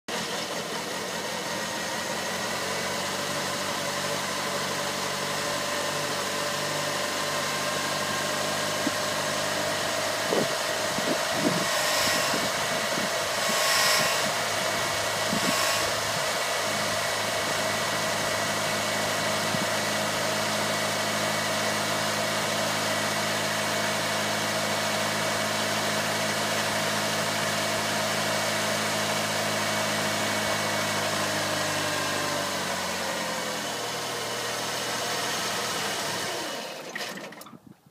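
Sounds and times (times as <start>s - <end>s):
car engine idling: 0.1s - 36.6s.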